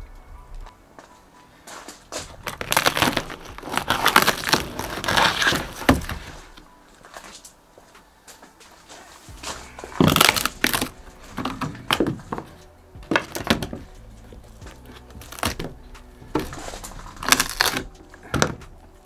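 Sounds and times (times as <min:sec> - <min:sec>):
rotten wood cracking and crunching: 0:01.6 - 0:07.6, 0:08.7 - 0:19.0.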